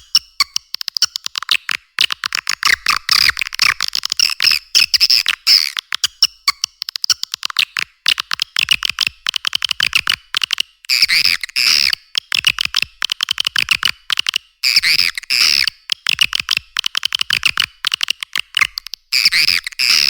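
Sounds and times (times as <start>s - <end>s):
swiftlet dry clicks: 3.5s - 20.0s.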